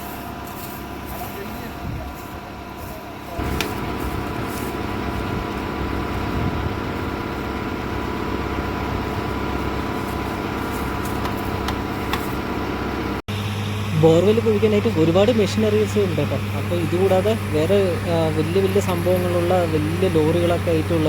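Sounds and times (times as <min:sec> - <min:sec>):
drilling rig engine running: 0:00.0 - 0:21.0.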